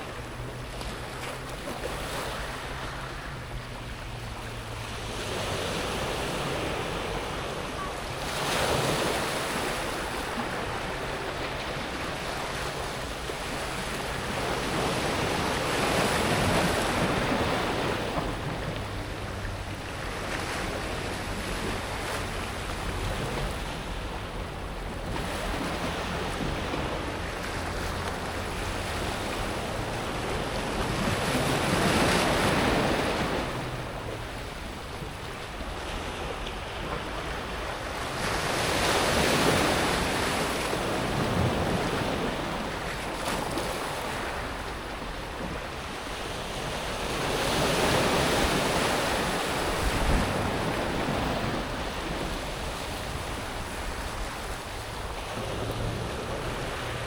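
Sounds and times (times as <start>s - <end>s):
waves washing over pebbles: 0.0s - 57.0s.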